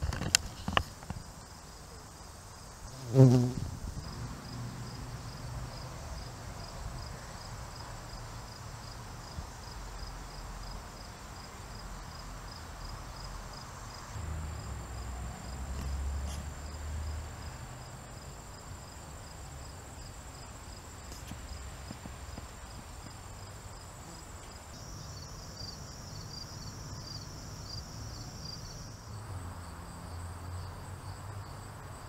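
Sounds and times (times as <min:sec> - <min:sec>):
insect chirping: 0:00.1 - 0:32.0.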